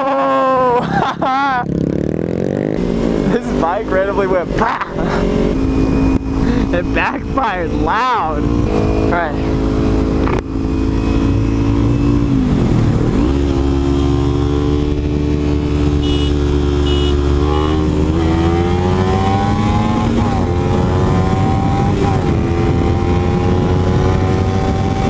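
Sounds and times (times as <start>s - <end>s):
wind and road noise: 0.0s - 25.0s
motorcycle engine accelerating: 0.3s - 25.0s.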